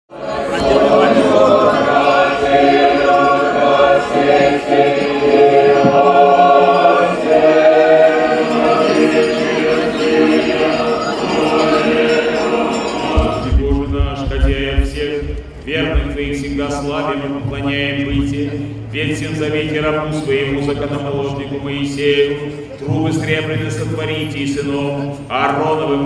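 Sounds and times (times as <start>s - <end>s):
church choir singing a hymn: 0.1s - 26.0s.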